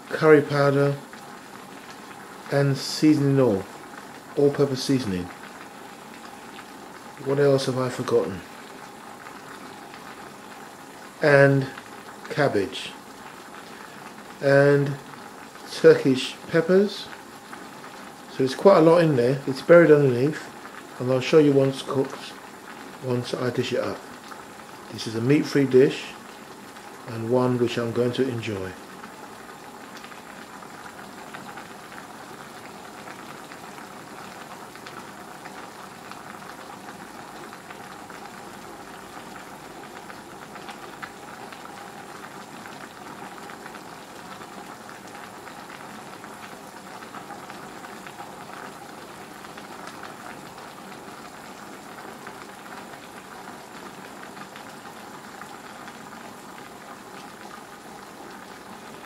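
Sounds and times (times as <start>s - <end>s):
vegetables bubbling and crackling: 0.0s - 59.0s.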